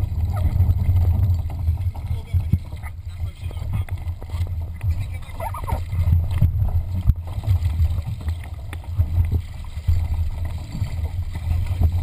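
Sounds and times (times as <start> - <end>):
water splashing along hull: 0.0 - 12.0
wind buffeting microphone: 0.0 - 12.0.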